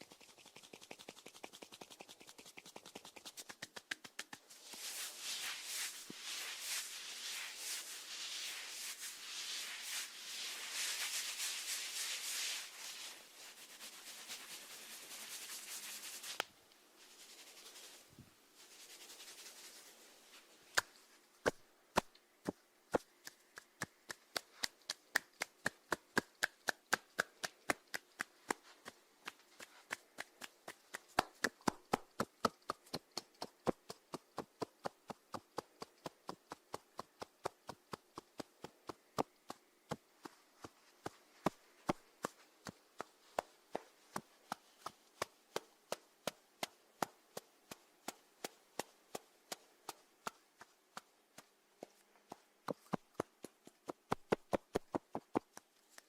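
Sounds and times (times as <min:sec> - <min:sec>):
soft rustling hiss: 0:00.0 - 0:56.0.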